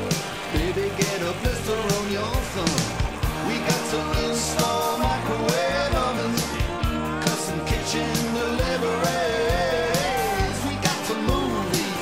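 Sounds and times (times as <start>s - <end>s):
song with vocals drums and bass: 0.0s - 12.0s.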